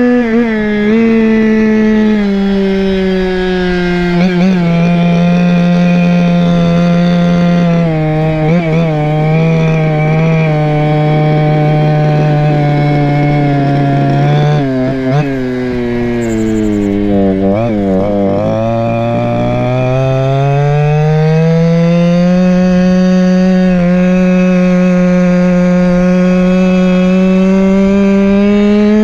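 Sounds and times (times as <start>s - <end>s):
two-stroke scooter engine running: 0.0s - 29.0s.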